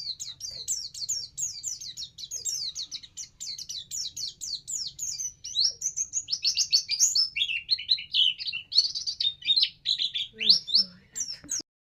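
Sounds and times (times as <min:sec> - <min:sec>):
bird twittering song: 0:00.0 - 0:11.6.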